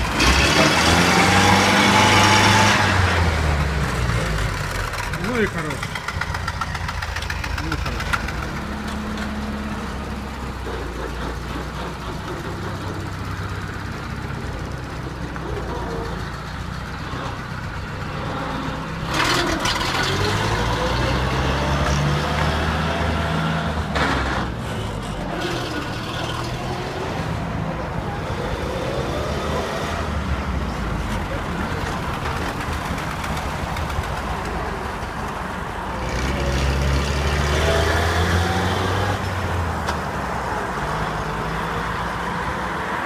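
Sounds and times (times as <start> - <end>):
engine revving: 0.0 - 43.0.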